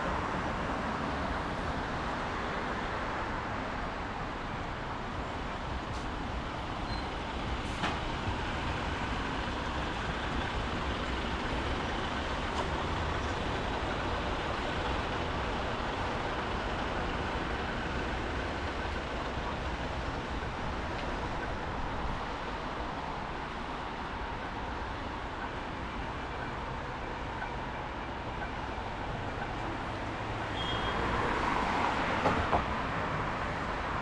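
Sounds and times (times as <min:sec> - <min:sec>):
traffic on wet street: 0:00.0 - 0:34.0.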